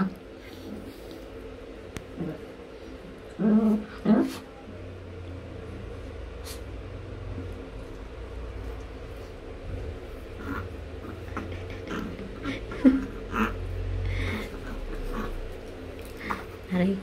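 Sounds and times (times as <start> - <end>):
puppy growling: 0.0 - 4.6, 6.4 - 16.8.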